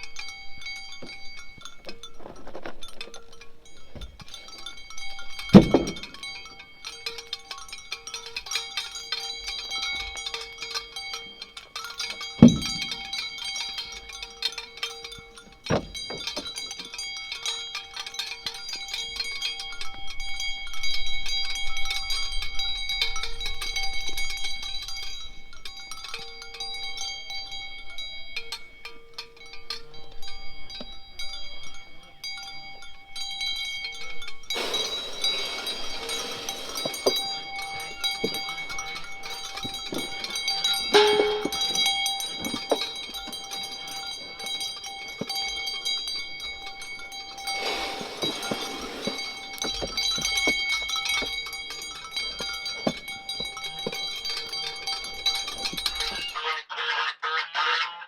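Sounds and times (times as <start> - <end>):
bell-like chimes: 0.0 - 56.4.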